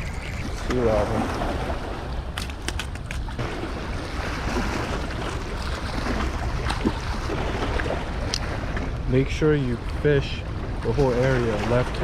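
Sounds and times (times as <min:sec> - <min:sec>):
water washing against shoreline: 0:00.0 - 0:12.0
wind on microphone: 0:00.0 - 0:12.0.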